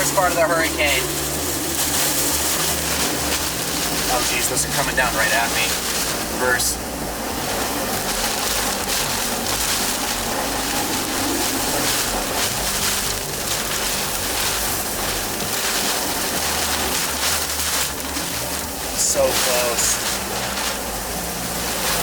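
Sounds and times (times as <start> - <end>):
hurricane winds and heavy rain: 0.0 - 22.0.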